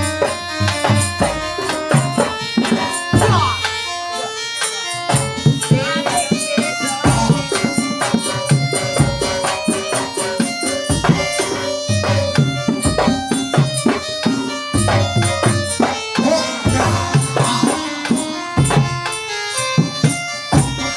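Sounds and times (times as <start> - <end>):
hand drums fast pattern: 0.0 - 20.9
held melody line: 0.0 - 20.9.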